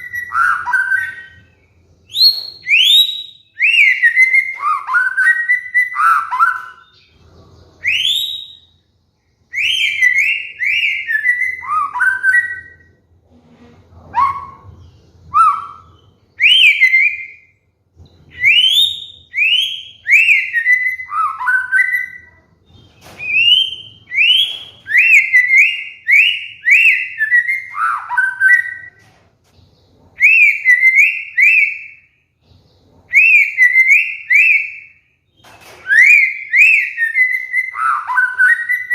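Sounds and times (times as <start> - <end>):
bird singing whistled phrases: 0.0 - 7.2, 7.8 - 8.8, 9.5 - 13.0, 14.0 - 17.6, 18.3 - 29.0, 30.1 - 32.2, 33.0 - 38.9.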